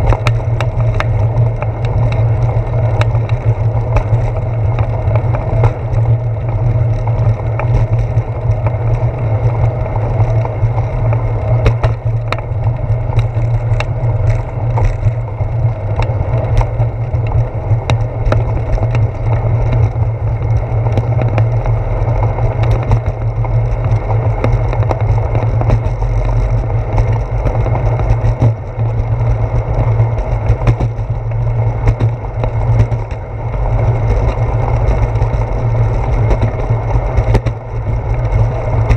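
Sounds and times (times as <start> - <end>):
bicycle rolling on concrete: 0.0 - 38.9
small ticks and rattles: 0.0 - 38.9
wind rumble: 0.0 - 38.9.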